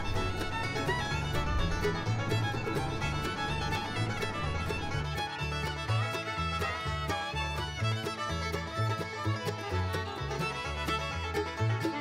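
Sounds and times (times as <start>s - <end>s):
fiddle tune over bass beat: 0.0s - 12.0s.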